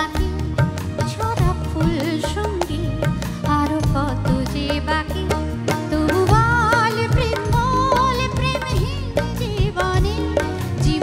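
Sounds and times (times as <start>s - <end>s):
band accompaniment: 0.0s - 11.0s
woman singing into a microphone: 0.0s - 11.0s.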